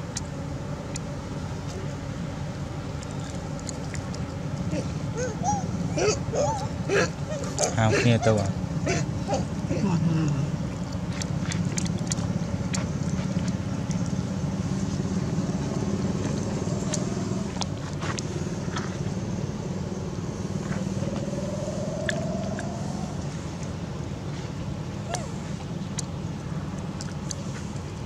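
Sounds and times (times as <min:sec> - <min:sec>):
motor engine humming: 0:01.0 - 0:26.9.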